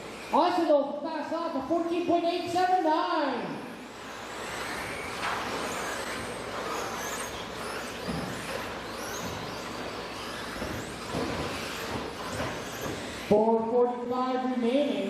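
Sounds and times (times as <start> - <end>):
electric motors whining: 0.0 - 13.6.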